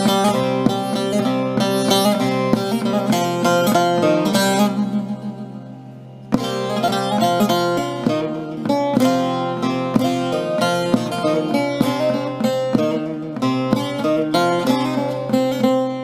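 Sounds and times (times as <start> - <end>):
plucked string music: 0.0 - 16.0.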